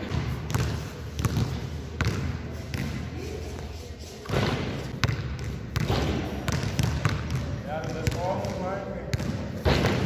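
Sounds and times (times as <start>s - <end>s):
basketball bouncing on gym floor: 0.0s - 3.1s, 4.2s - 10.0s.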